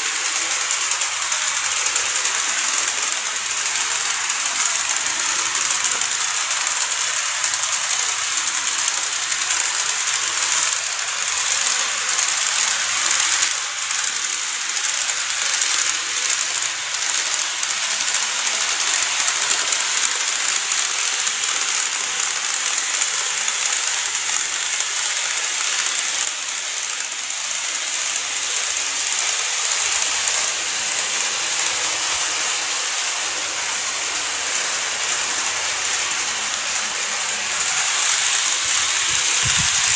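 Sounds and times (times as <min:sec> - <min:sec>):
model train wheels hissing on rails: 0:00.0 - 0:39.9
small electric motor: 0:00.0 - 0:39.9.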